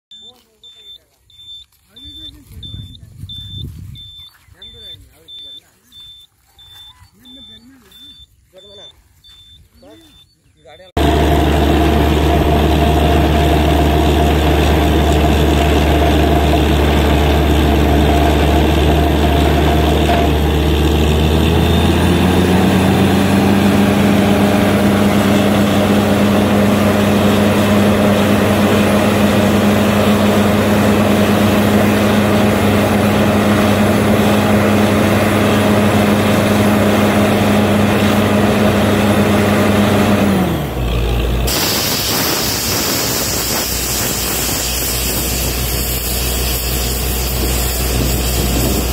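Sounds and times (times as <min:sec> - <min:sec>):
drilling rig engine running: 0:00.1 - 0:48.9.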